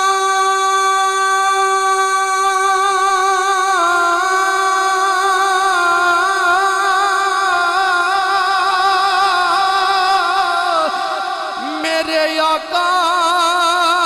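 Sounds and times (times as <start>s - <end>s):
man singing a held note: 0.0s - 14.0s.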